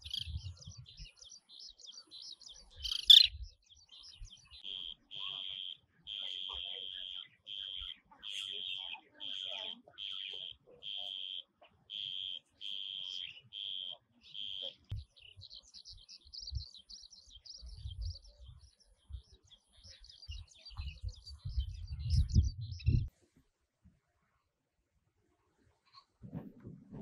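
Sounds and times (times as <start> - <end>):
birds twittering: 0.0 - 23.1.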